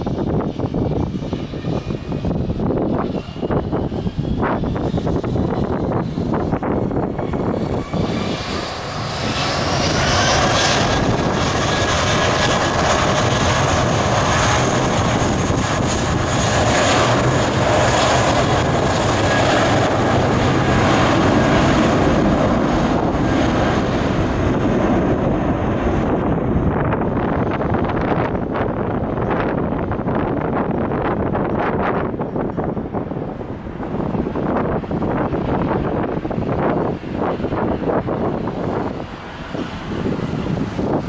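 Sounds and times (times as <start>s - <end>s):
loud engine with whine: 0.0s - 41.0s.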